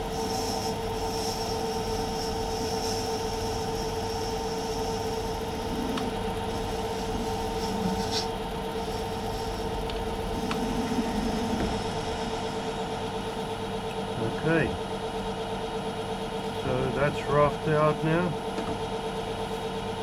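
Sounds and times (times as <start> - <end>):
metal lathe humming: 0.0 - 20.0.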